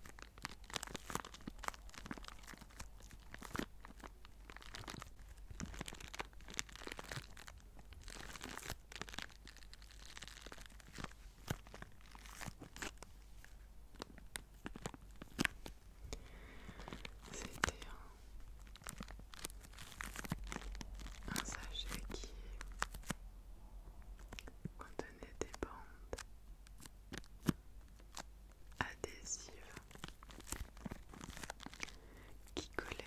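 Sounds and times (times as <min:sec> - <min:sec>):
plastic bag crinkling: 0:00.0 - 0:23.2, 0:24.2 - 0:33.0.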